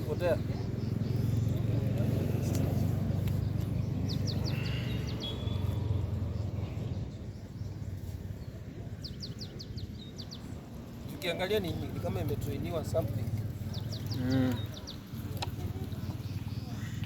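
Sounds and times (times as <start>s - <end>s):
bird chirping: 0.0s - 12.8s, 13.4s - 17.0s
low outdoor rumble: 0.0s - 17.0s.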